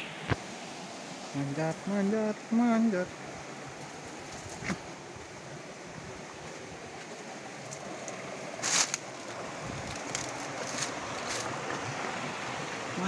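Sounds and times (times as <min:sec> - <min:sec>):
river water over rocks: 0:00.0 - 0:13.0.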